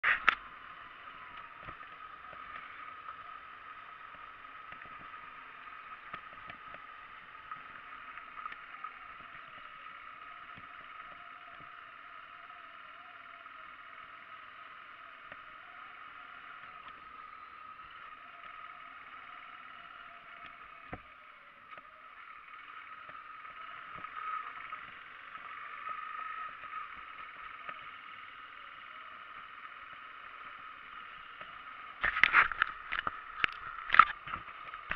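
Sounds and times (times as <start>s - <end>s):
motorcycle on gravel road: 0.0s - 34.9s.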